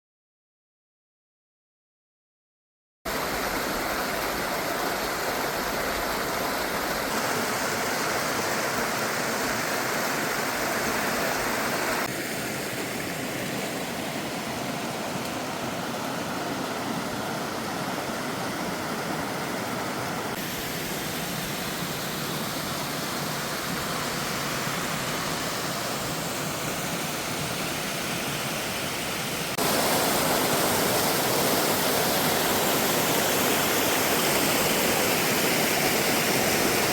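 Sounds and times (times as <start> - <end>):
waterfall rushing: 3.1 - 36.9.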